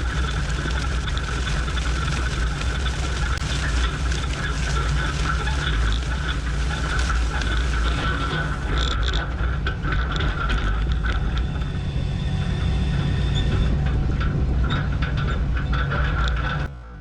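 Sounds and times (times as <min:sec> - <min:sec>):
metallic clattering and rattling: 0:00.0 - 0:11.8, 0:12.9 - 0:17.0
tractor engine running: 0:00.0 - 0:17.0.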